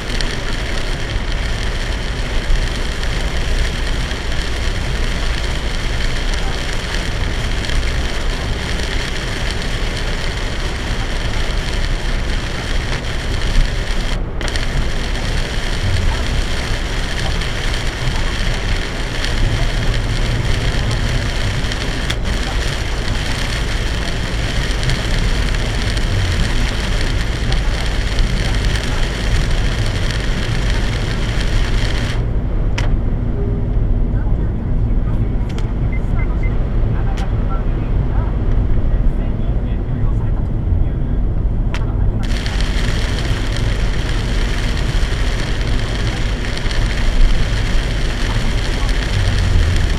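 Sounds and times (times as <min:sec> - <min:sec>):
tyre noise on wet road: 0:00.0 - 0:34.8, 0:40.6 - 0:49.9
heavy rain on a car: 0:00.0 - 0:40.4, 0:41.2 - 0:49.9.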